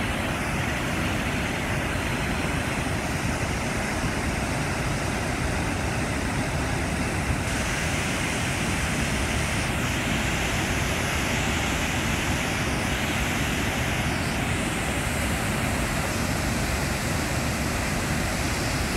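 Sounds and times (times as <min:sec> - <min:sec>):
water rushing over spillway: 0:00.0 - 0:18.9.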